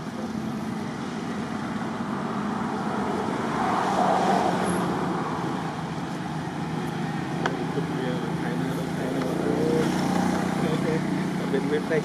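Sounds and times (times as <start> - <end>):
motor vehicle passing: 0.0 - 12.0.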